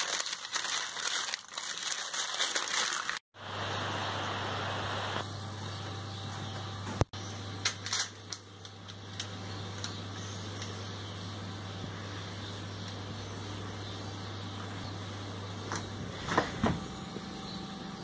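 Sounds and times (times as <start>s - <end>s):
steady low hum: 3.4s - 18.0s.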